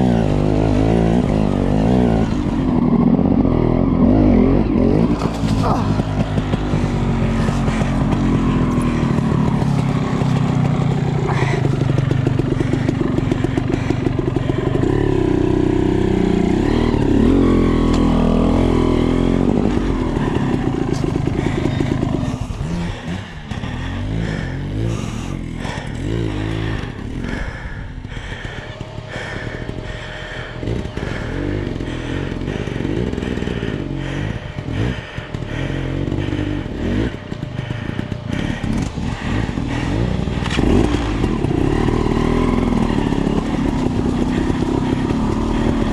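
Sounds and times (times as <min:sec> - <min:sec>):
dirt bike engine revving: 0:00.0 - 0:45.9
second dirt bike engine: 0:00.0 - 0:45.9.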